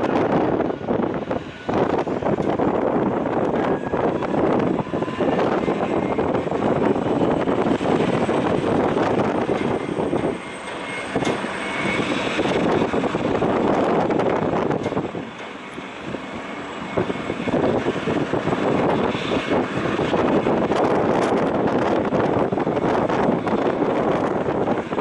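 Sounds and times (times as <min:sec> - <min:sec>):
jet airliner taking off: 0:00.0 - 0:25.0.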